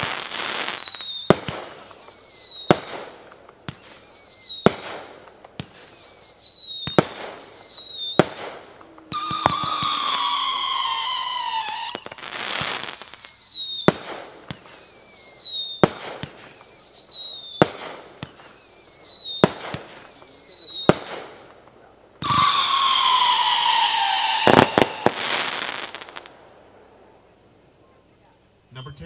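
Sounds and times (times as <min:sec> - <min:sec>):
firework bangs: 0:00.0 - 0:27.2
whistling firework shots: 0:00.0 - 0:27.2
firework crackle: 0:00.0 - 0:28.2.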